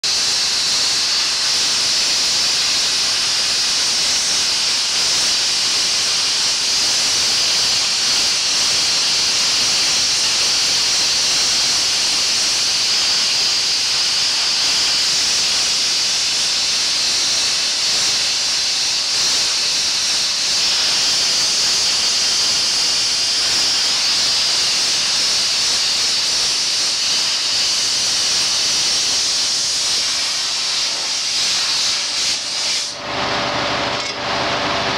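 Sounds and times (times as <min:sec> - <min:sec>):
sandblasting gun hissing: 0:00.0 - 0:34.1.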